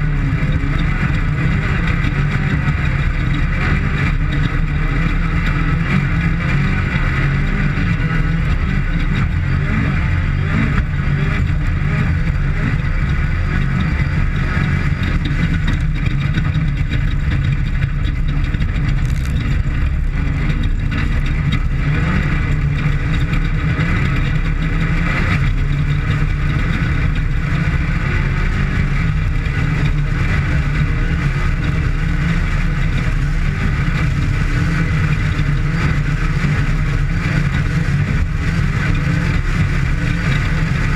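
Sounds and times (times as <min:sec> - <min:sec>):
race vehicle engine running under load: 0:00.0 - 0:40.9.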